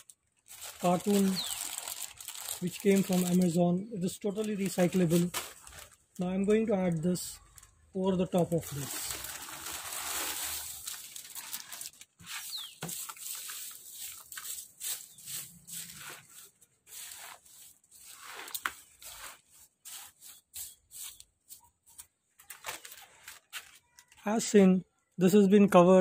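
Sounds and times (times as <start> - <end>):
cardboard crackling: 0.0 - 3.6, 4.3 - 24.0
plastic bag rustling: 0.0 - 24.0.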